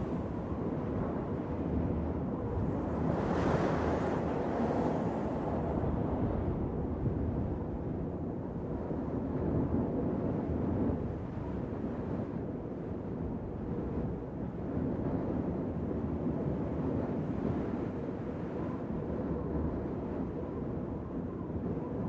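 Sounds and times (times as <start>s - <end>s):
wind over the sea: 0.0s - 22.0s.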